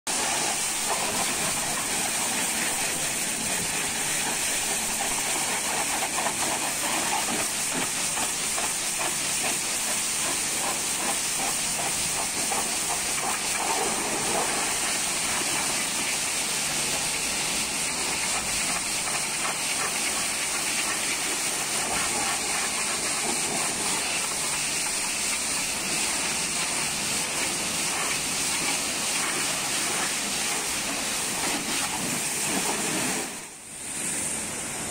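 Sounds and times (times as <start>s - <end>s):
pressure washer spray hissing: 0.1s - 34.9s.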